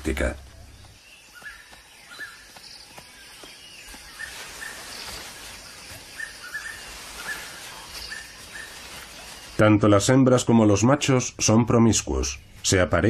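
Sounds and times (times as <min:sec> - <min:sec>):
background hiss: 0:00.0 - 0:13.0
chirping bird calls: 0:00.0 - 0:13.0.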